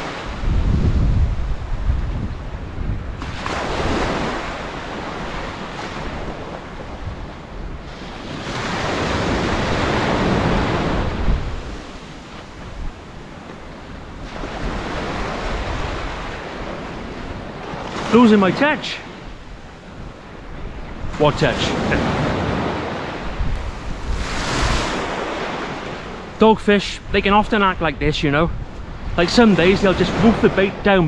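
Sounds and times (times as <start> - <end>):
waves breaking on beach: 0.0 - 31.0
wind buffeting microphone: 0.0 - 31.0.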